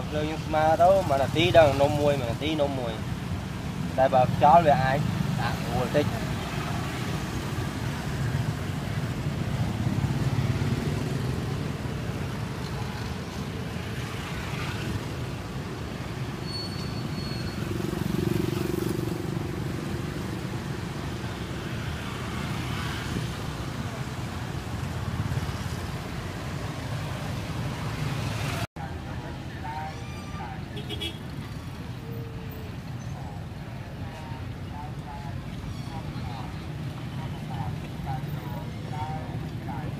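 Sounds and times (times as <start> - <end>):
street traffic rumble: 0.0 - 39.9.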